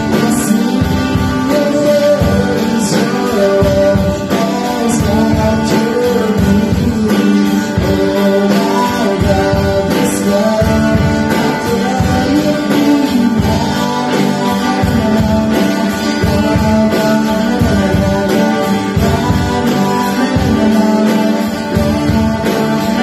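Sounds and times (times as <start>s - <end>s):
drum kit beat: 0.0s - 23.0s
electric and acoustic guitars: 0.0s - 23.0s
singing: 0.0s - 23.0s.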